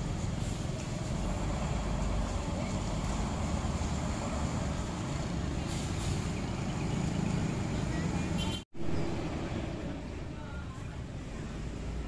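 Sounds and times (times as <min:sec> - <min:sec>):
bus engines rumbling: 0:00.0 - 0:12.0.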